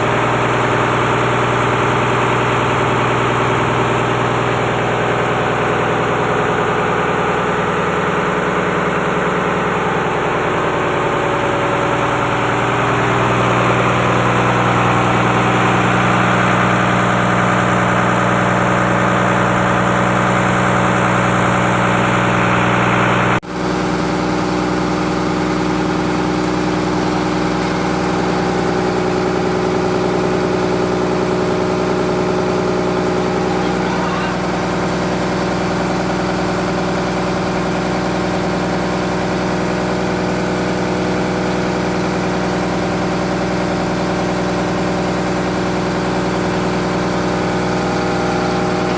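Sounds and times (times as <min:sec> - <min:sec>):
freezer machine engine running: 0:00.0 - 0:48.9.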